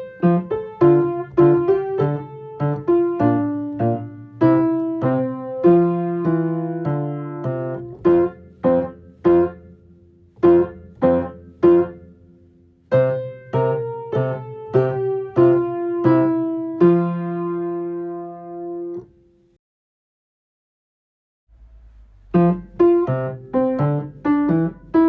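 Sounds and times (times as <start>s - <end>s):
piano playing chords: 0.0s - 19.2s, 22.2s - 25.0s.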